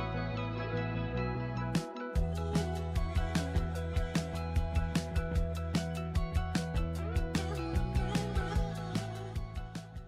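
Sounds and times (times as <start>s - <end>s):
instrumental music with quick beat: 1.7s - 10.0s.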